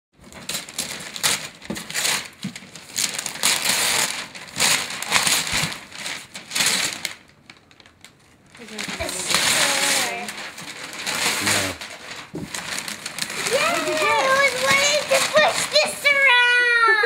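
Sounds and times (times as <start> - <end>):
wrapping paper tearing and crumpling: 0.2 - 17.0.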